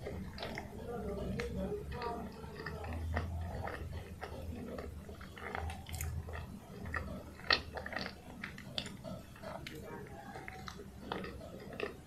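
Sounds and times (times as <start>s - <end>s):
wet chewing clicks and smacks: 0.0s - 12.0s.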